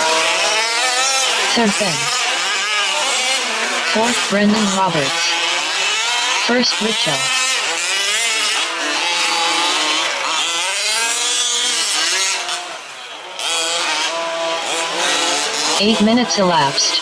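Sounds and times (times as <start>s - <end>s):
radio-controlled car engines revving: 0.0s - 17.0s.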